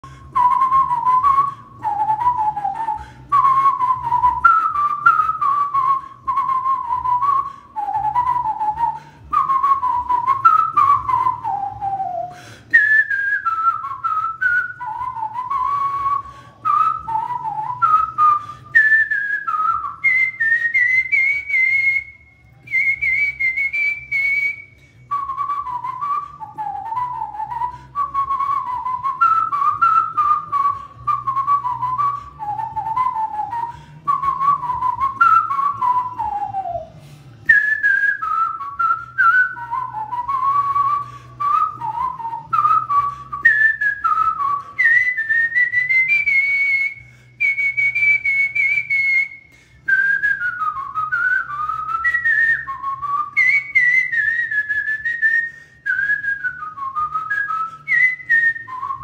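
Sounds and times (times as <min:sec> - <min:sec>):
person whistling a pop melody: 0:00.0 - 0:59.0.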